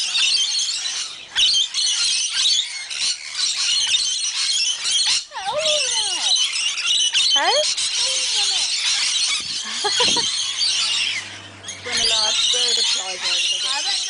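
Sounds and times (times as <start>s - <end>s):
lorikeets screeching and chattering: 0.0s - 14.0s.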